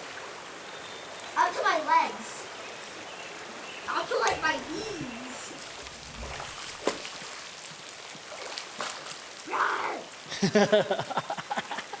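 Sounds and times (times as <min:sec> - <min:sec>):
rushing stream water: 0:00.0 - 0:12.0.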